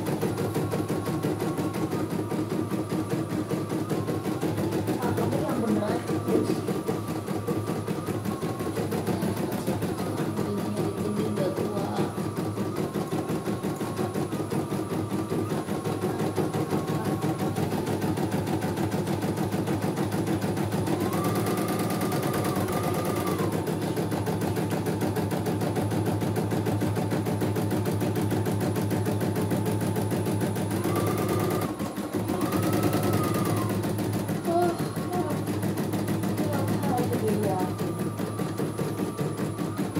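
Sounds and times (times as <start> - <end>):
embroidery machine rattling: 0.0 - 39.9
faint machine whine: 0.0 - 39.9.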